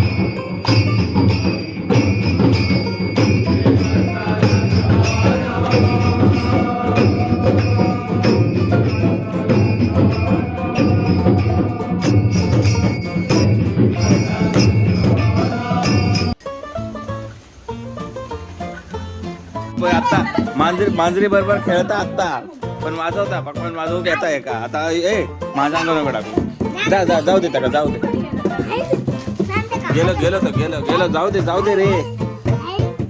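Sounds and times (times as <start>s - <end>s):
music with steady percussion beat: 0.0s - 33.0s.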